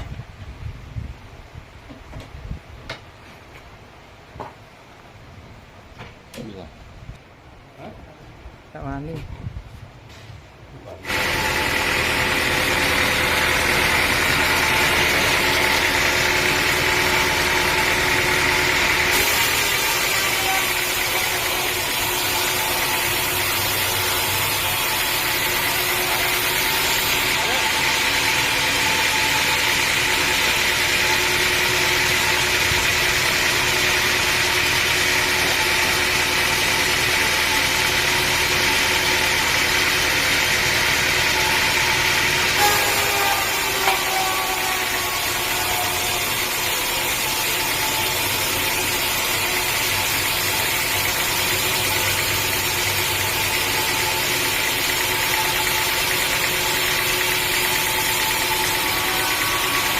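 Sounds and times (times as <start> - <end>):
sawmill engine running: 10.9 - 59.9.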